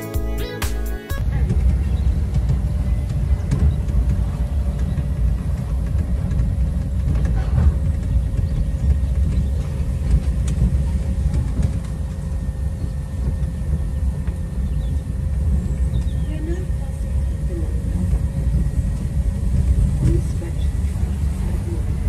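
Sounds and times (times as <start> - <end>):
monorail car rumbling on track: 1.1 - 22.0.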